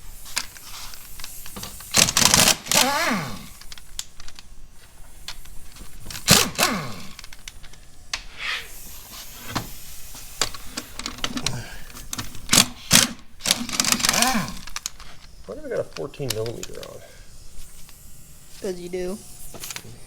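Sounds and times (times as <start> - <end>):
ratchet wrench clicking: 0.2 - 20.0.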